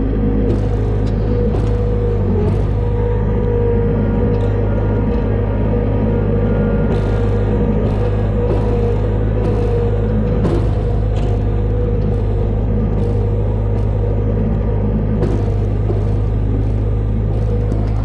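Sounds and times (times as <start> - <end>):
loader engine running: 0.0 - 18.0.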